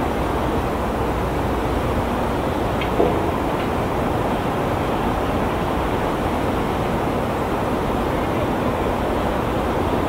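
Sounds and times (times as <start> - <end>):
rushing water: 0.0 - 10.0
rushing wind: 0.0 - 10.0.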